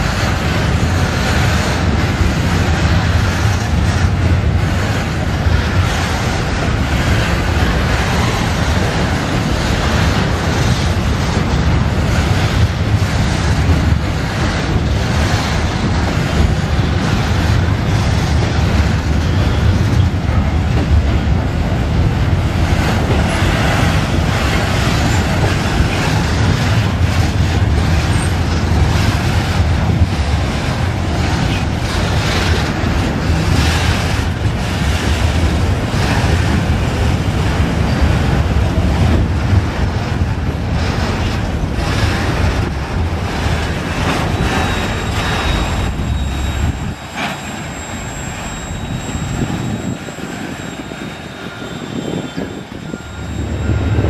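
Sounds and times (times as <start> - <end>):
freight train rumbling past: 0.0 - 54.0
wagon wheels clacking on rail joints: 0.0 - 54.0.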